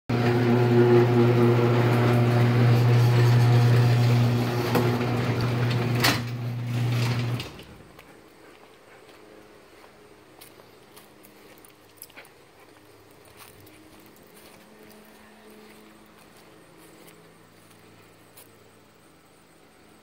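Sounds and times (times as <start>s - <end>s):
low motor hum: 0.1s - 20.0s.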